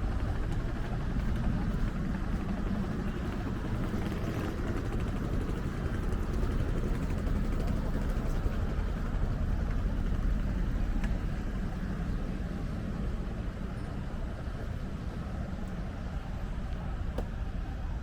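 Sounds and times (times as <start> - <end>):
city street noise: 0.0 - 18.0.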